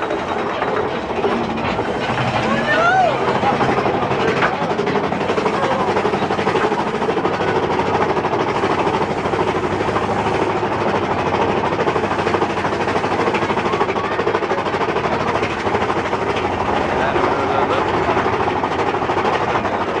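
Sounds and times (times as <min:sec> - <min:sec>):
roller coaster cars rattling on track: 0:00.0 - 0:20.0.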